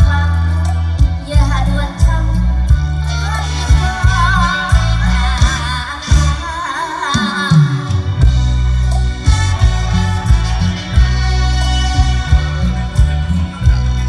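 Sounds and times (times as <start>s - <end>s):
heavy bass line: 0.0s - 6.4s, 8.1s - 14.0s
steady drum beat: 0.0s - 6.4s, 7.2s - 14.0s
band playing through loudspeakers: 0.0s - 14.0s.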